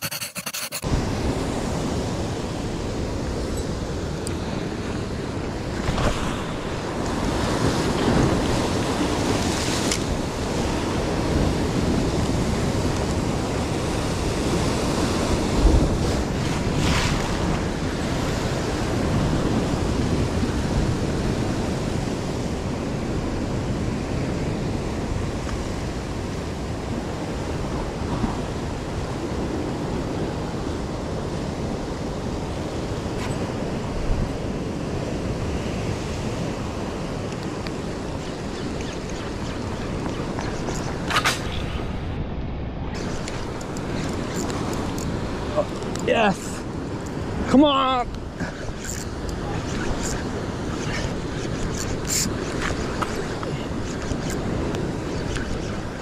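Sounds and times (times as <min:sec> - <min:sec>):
ocean waves crashing on rocks: 0:00.9 - 0:56.0.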